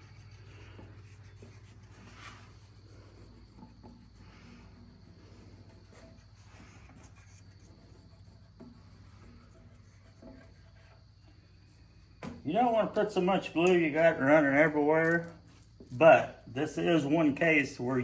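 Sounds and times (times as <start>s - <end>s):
rubbing and scraping on wood: 0.0s - 18.0s.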